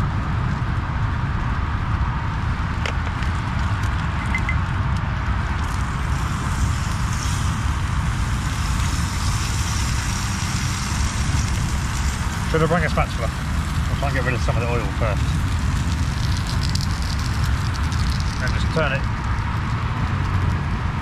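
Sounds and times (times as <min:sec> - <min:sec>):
camping stove burning: 0:00.0 - 0:21.0
road traffic rumble: 0:00.0 - 0:21.0
oil sizzling: 0:02.5 - 0:20.3.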